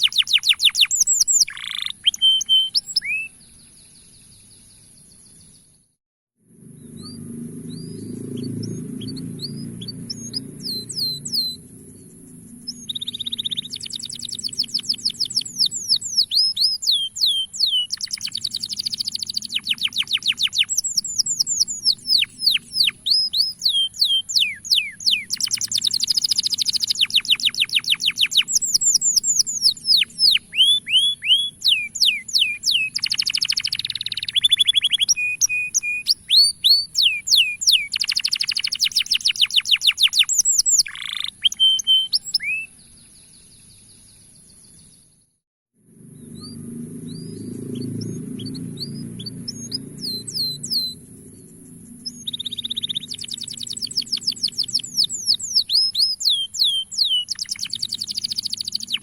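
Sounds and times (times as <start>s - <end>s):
canary singing trills: 0.0s - 5.7s, 6.6s - 45.0s, 46.0s - 59.0s.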